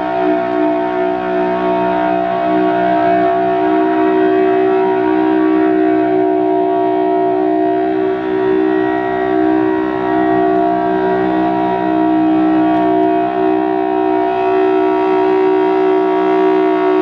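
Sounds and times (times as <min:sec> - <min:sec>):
civil defense siren: 0:00.0 - 0:17.0.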